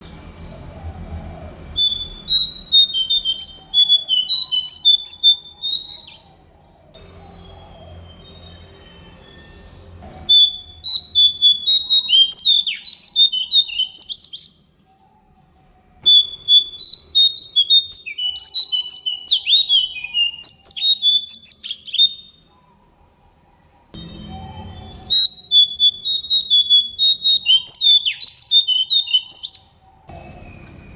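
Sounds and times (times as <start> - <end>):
songbird whistling: 1.8 - 14.8, 16.0 - 22.4, 24.0 - 30.9.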